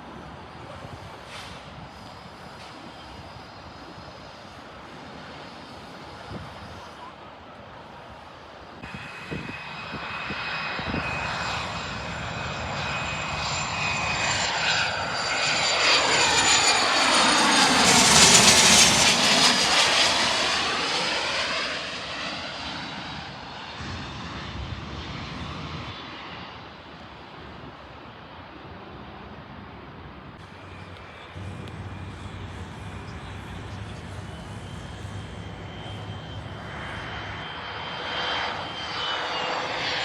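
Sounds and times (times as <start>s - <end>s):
airplane passing overhead: 0.0s - 40.0s.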